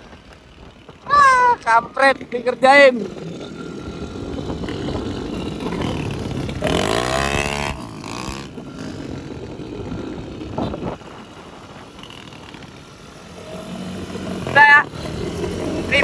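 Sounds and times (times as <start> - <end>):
road noise: 0.0 - 16.0
scooter engine accelerating: 0.0 - 16.0.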